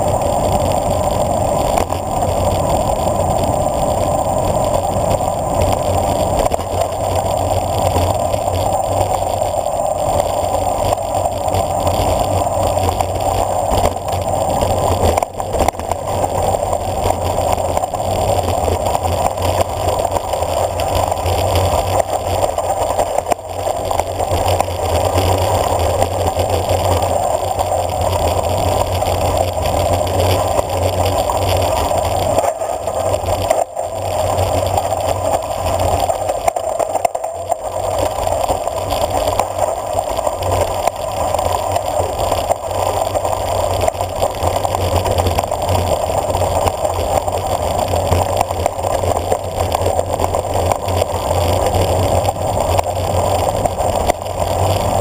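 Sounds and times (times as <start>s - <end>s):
bicycle tyres on dirt: 0.0s - 55.0s
bike rattling: 0.0s - 55.0s
wind rush on microphone: 0.0s - 55.0s.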